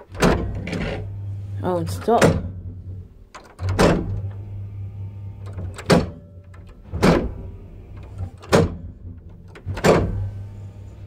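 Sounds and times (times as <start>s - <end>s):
relay clunks: 0.0s - 10.6s
low hum: 0.1s - 11.0s.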